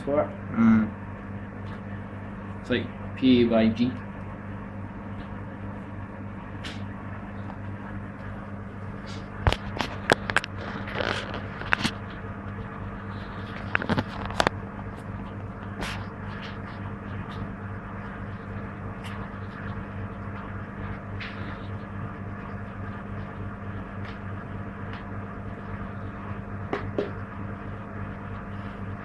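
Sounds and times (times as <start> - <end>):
washing machine humming: 0.0 - 29.0.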